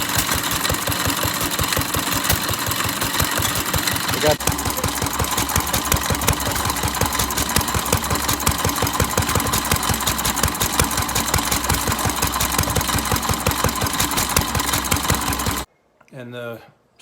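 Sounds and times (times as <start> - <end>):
antique gas engine clattering: 0.0 - 15.7.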